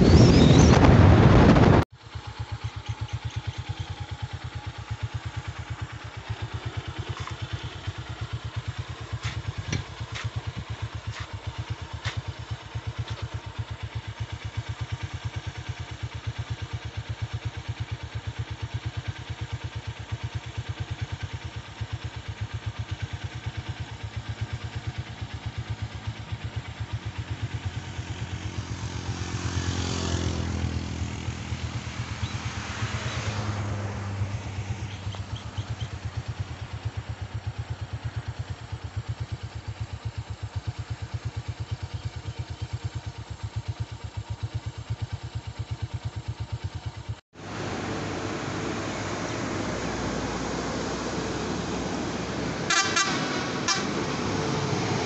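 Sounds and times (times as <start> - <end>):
passing engine: 0.0 - 16.7, 20.1 - 44.8, 47.4 - 55.0
motorcycle engine idling: 0.0 - 55.0.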